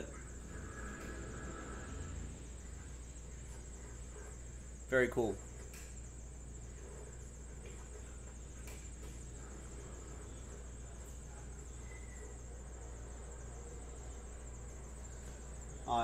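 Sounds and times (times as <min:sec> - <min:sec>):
high-pitched whine: 0:00.0 - 0:16.0
low electrical hum: 0:00.0 - 0:16.0.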